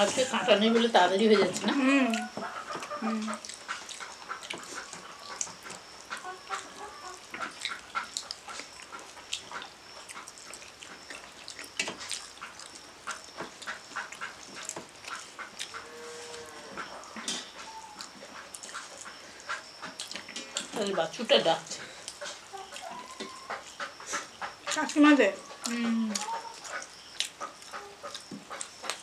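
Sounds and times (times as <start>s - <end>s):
chewing and lip smacking: 1.4s - 5.9s, 6.5s - 15.8s, 17.1s - 20.7s, 21.9s - 25.0s, 25.6s - 29.0s.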